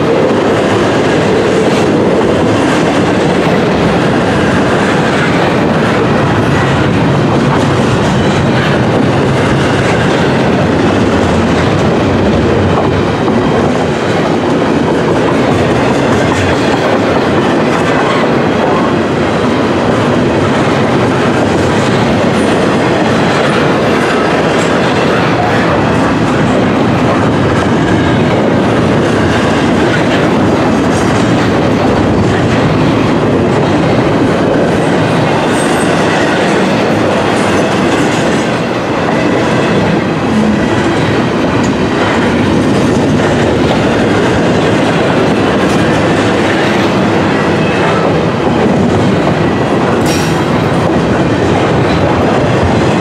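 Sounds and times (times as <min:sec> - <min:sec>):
steel wheels running on rails: 0:00.0 - 0:53.0.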